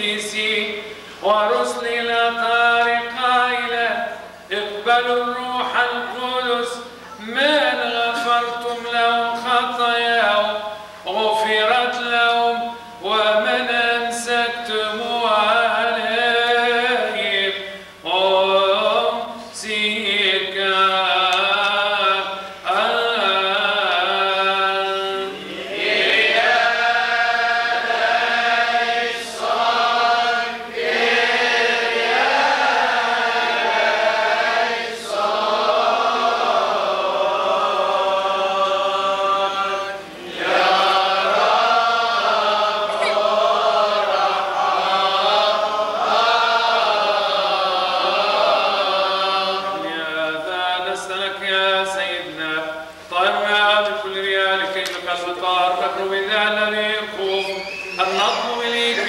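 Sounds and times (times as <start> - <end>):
voices singing liturgical chant: 0.0 - 59.0.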